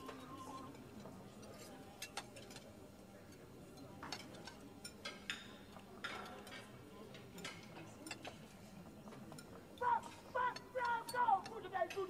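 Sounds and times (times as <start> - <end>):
cutlery and glasses clinking: 0.0 - 12.0
low murmured voices: 0.0 - 12.0.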